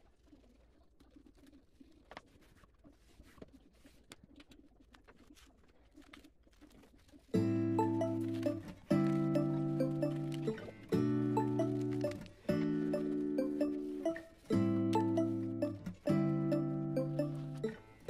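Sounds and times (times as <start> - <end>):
vinyl film rustling and clicks: 1.0 - 16.2.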